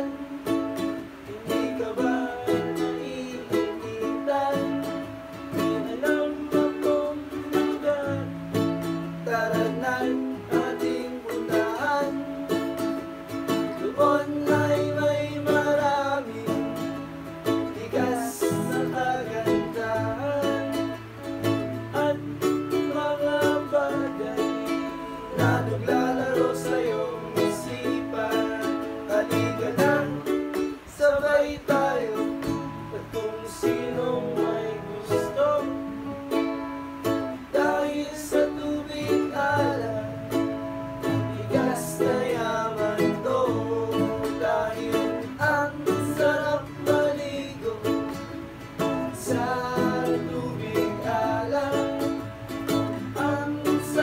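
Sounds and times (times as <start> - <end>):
men singing along: 0.0 - 12.8, 13.5 - 36.4, 37.4 - 54.0
ukulele and guitar strumming: 0.0 - 54.0.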